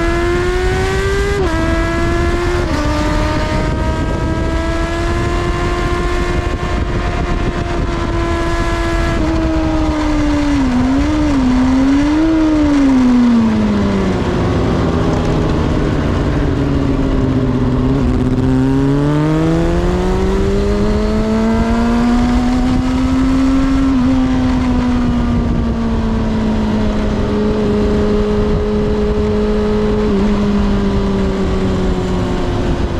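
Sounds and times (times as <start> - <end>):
motorcycle engine at part throttle: 0.0 - 32.9
wind rush on microphone: 0.0 - 32.9.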